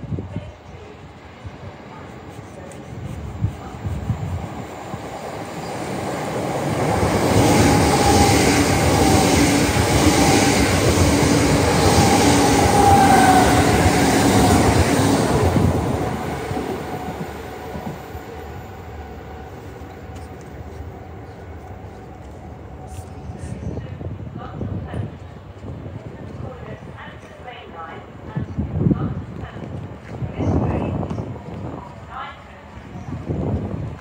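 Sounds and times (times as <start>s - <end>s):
train passing: 0.0s - 34.0s.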